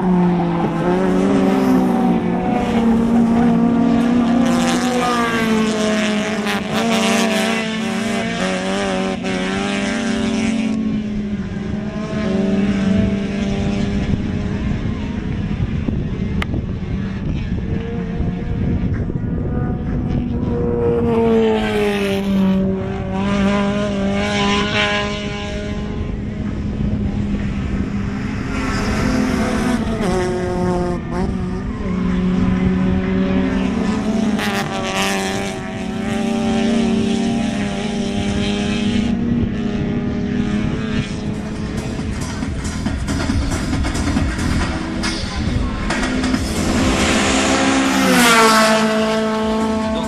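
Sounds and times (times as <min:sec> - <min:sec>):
racing engines running hard: 0:00.0 - 0:50.0.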